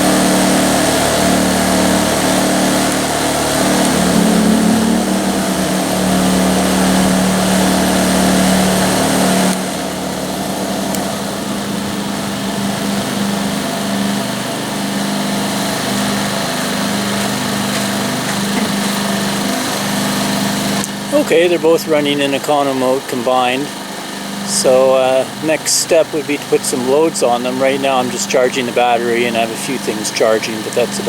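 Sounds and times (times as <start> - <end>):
generators humming: 0.0 - 31.0.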